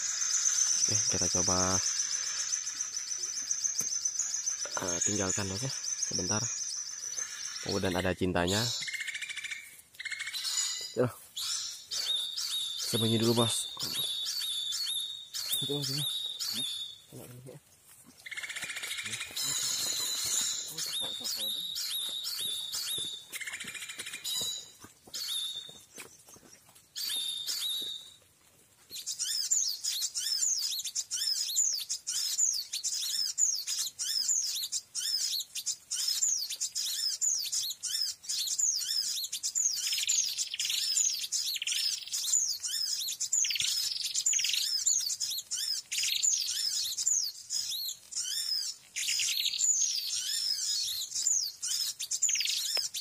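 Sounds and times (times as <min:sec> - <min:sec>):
recorded bird chirps and twittering: 0:00.0 - 0:28.2, 0:28.9 - 0:53.0.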